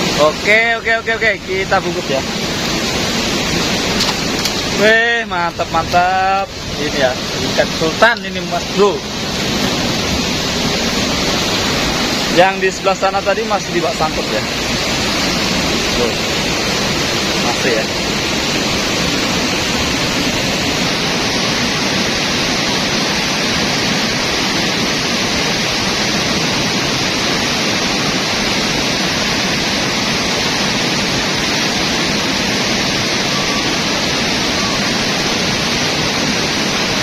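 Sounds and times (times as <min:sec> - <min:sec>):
river water rushing over rapids: 0:00.0 - 0:37.0.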